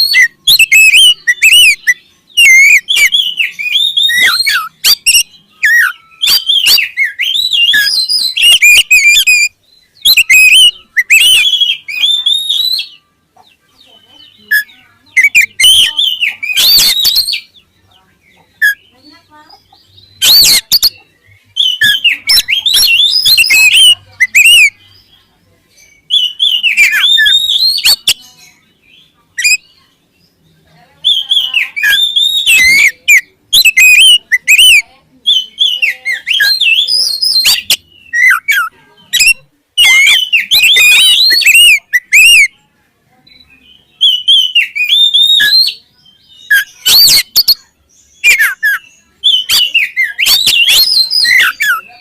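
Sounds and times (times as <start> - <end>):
bird singing whistled phrases: 0.0 - 13.1, 13.8 - 17.7, 20.0 - 25.1, 25.7 - 29.9, 31.0 - 42.6, 43.3 - 52.0.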